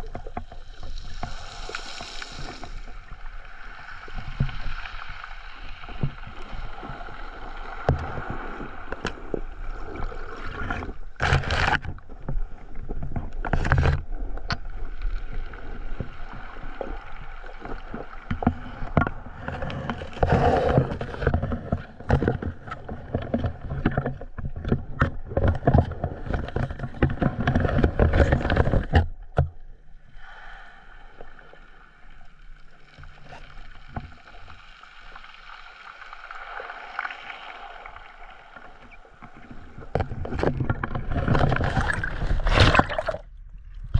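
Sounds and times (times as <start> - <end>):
underwater sloshing and gurgling: 0.0 - 43.9.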